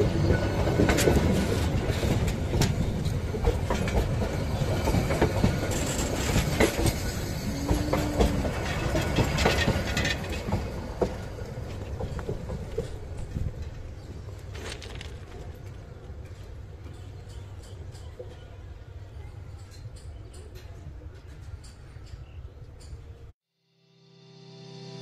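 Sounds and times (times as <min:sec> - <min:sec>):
train wheels rumbling on rails: 0:00.0 - 0:23.3.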